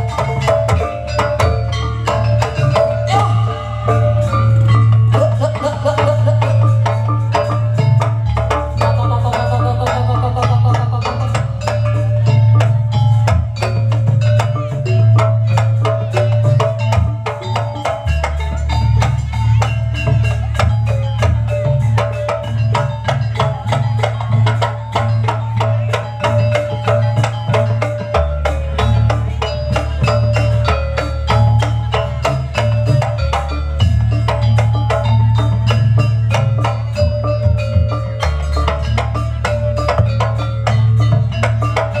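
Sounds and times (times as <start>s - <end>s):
drums: 0.0s - 42.0s
gamelan mallet percussion: 0.0s - 42.0s
wavering melodic line: 0.0s - 42.0s.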